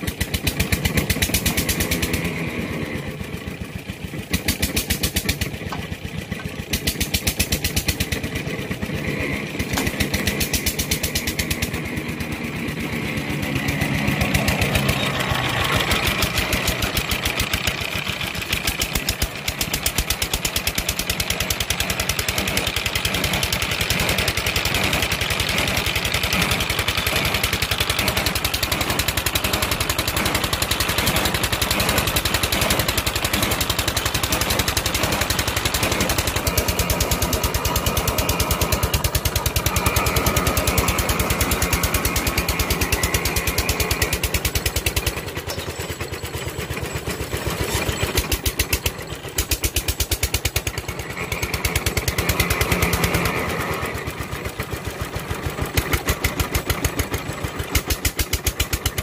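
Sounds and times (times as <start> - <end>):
boring rig engine running: 0.0 - 59.0.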